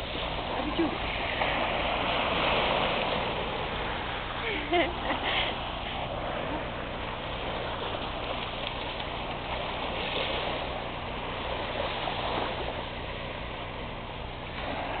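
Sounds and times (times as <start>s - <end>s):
sea waves washing on shore: 0.0s - 15.0s.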